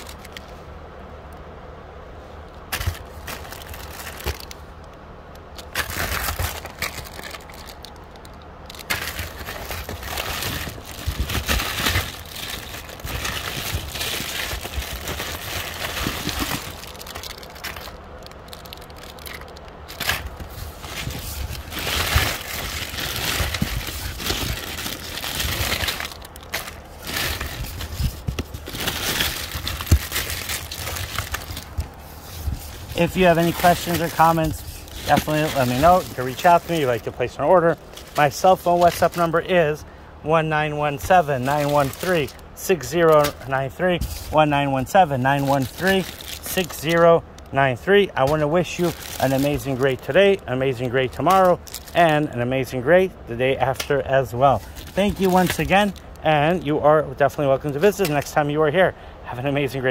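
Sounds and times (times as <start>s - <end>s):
plastic bags and cards crinkling: 0.0s - 0.6s, 2.7s - 4.8s, 5.5s - 59.9s.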